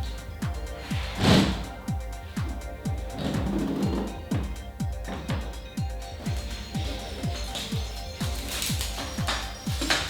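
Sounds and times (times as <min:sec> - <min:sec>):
electronic music with kick drum: 0:00.0 - 0:10.0.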